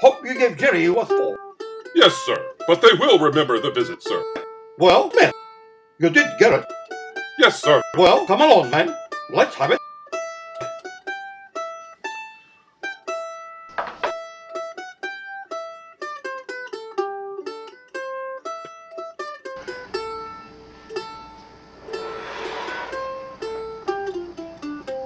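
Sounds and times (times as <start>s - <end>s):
low hum and hiss: 0.0s - 25.0s
plucked string melody: 0.0s - 25.0s.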